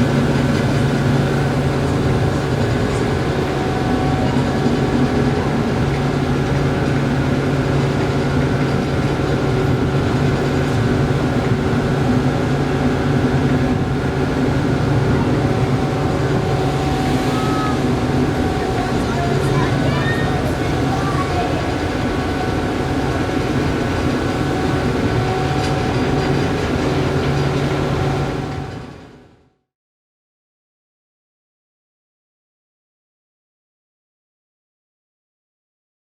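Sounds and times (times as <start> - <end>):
ship engines droning: 0.0 - 29.4.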